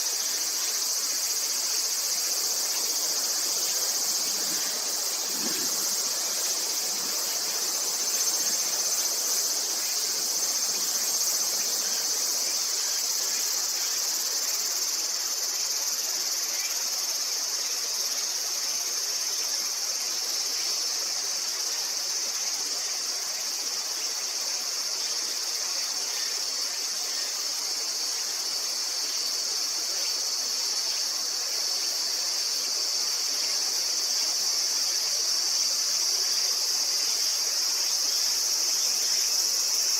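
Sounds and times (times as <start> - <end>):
insects chorus drone: 0.0 - 39.9.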